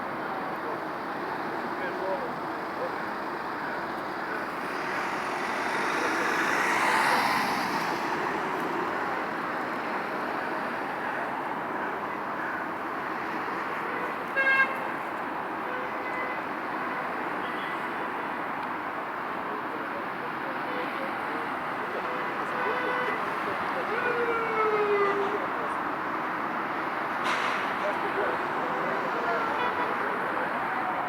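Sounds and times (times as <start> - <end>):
road traffic: 0.0 - 31.0.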